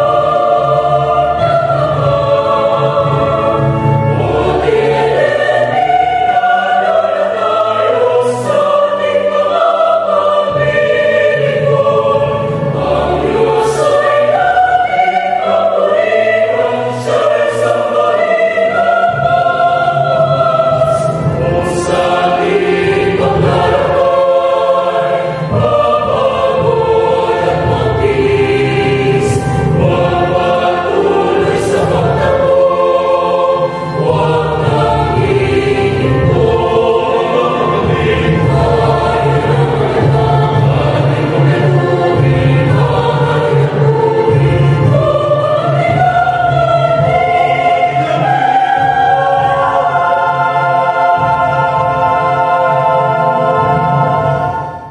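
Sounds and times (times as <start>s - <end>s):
mixed choir singing a hymn: 0.0s - 54.9s.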